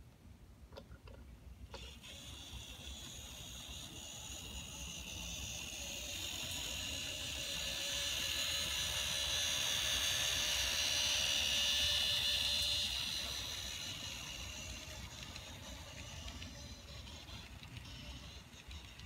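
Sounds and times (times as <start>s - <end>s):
model train whirring on track: 1.7s - 19.0s.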